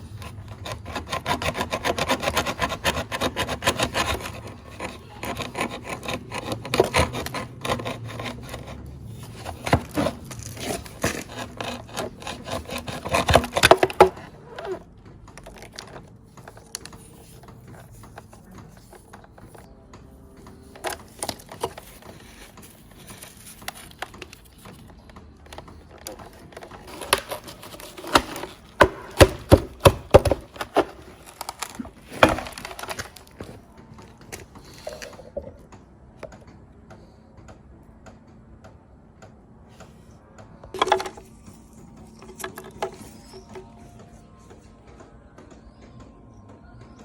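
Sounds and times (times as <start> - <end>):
hard objects clicking and knocking: 0.0 - 45.0.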